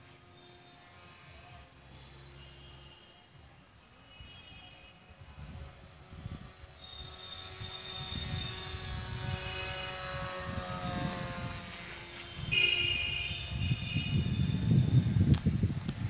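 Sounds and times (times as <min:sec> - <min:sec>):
higher whine: 0:00.0 - 0:16.0
model plane electric motor whining: 0:00.0 - 0:16.0.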